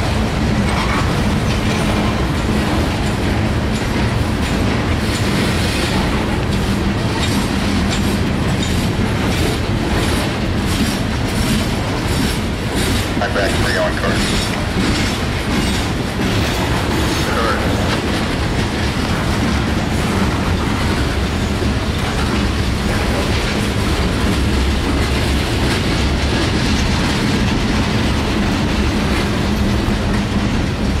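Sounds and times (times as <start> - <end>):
steel train wheels on rail: 0.0 - 31.0.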